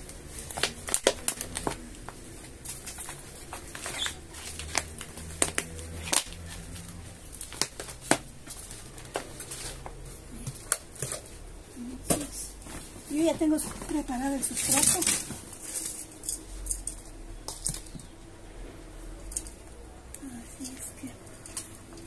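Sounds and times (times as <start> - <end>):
plastic bottle crackling: 0.0 - 18.2.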